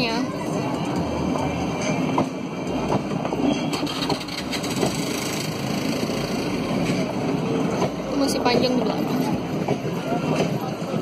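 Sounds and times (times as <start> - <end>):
steel wheels rumbling on rails: 0.0 - 11.0.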